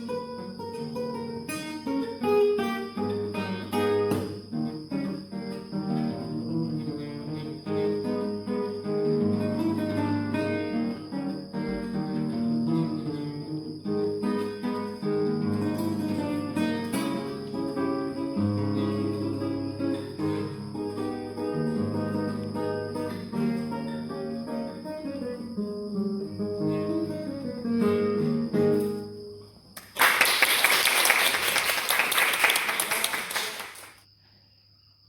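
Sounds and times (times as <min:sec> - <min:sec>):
solo guitar playing: 0:00.0 - 0:29.5
crickets chirring: 0:00.0 - 0:35.0.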